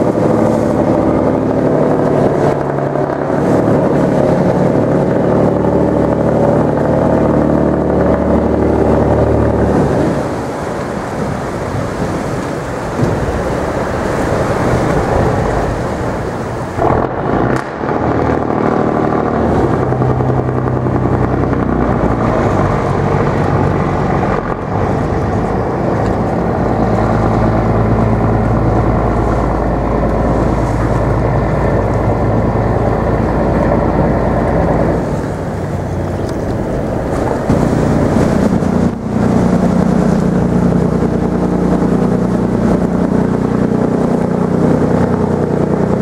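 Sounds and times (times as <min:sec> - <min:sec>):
boat engine humming: 0:00.0 - 0:46.0
hull churning through ice: 0:00.0 - 0:46.0.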